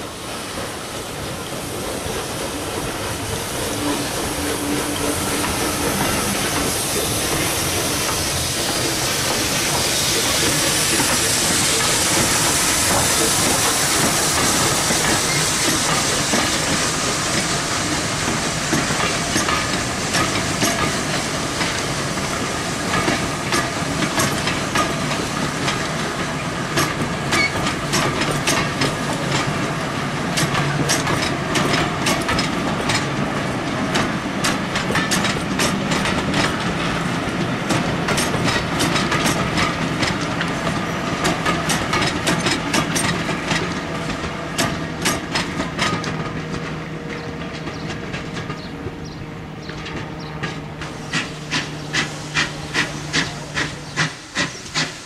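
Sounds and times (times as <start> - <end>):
steam locomotive hiss and exhaust: 0.0 - 55.0
wheels clicking over rail joints: 0.5 - 55.0.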